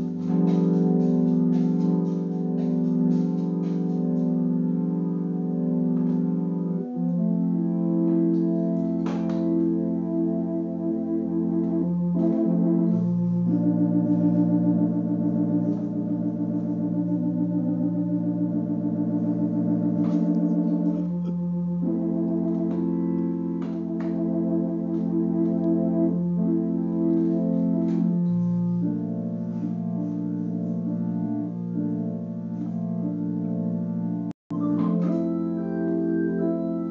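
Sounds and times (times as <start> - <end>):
electronic organ chords with vibrato: 0.0 - 36.9
held organ bass note: 0.0 - 36.9.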